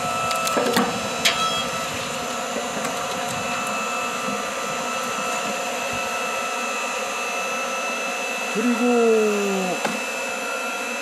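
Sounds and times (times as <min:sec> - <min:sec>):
log splitter motor whining: 0:00.0 - 0:11.0.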